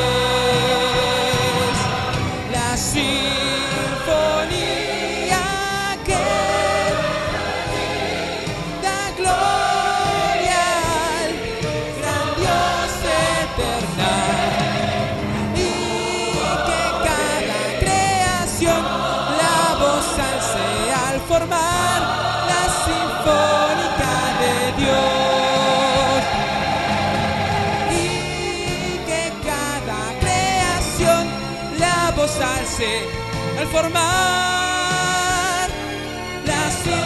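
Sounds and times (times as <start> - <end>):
instrumental accompaniment: 0.0 - 37.0
people singing worship song: 0.0 - 37.0.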